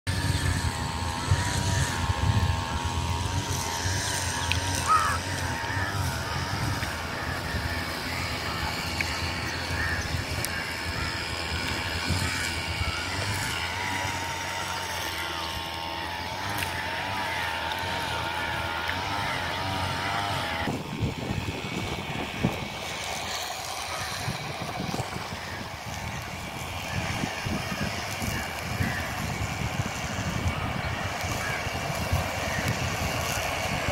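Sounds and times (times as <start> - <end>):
wind buffeting microphone: 0.1 - 15.0, 19.1 - 33.9
faint wavering hum: 0.1 - 33.9.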